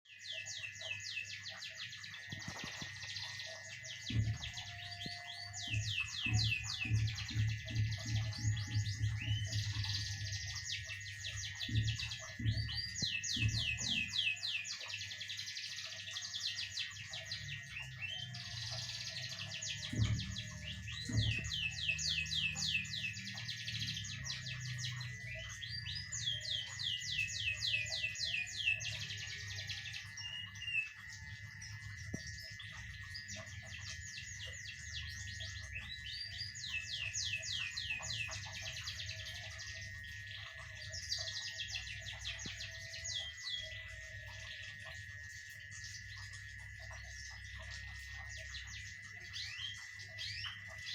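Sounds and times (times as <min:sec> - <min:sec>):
songbird whistling: 0:00.1 - 0:50.9
steady high-pitched tone: 0:00.1 - 0:50.9.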